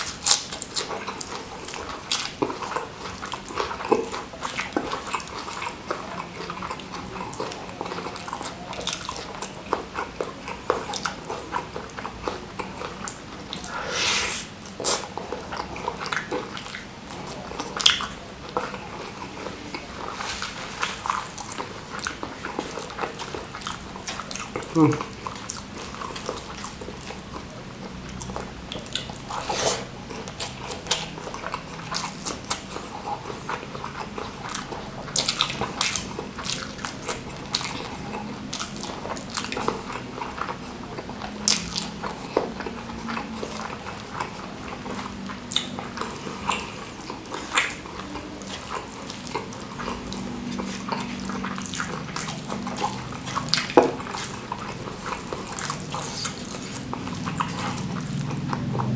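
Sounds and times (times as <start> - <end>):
person chewing and smacking: 0.0 - 58.9.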